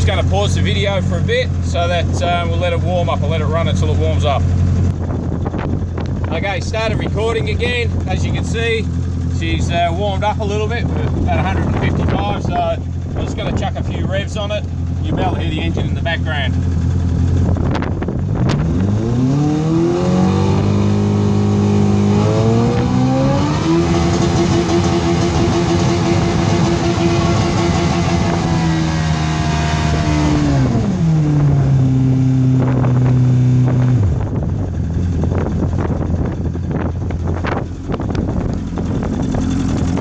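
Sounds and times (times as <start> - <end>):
outboard motor revving: 0.0 - 40.0.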